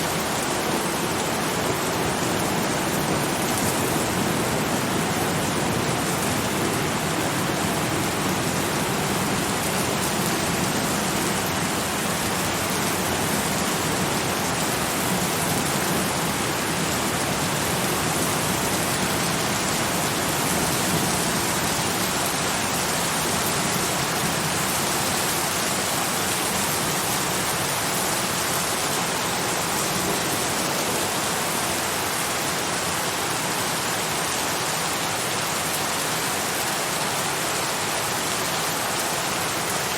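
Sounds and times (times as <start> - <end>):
rain hitting a surface: 0.0 - 39.9.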